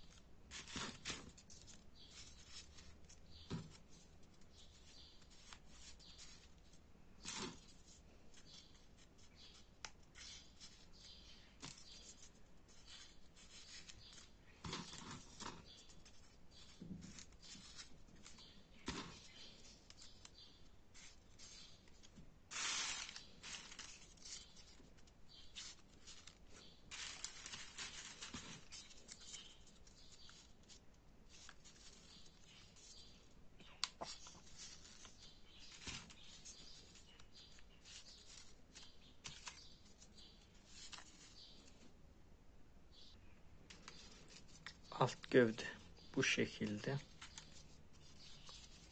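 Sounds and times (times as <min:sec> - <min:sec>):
paper rustling and crinkling: 0:00.0 - 0:41.9, 0:42.9 - 0:48.9.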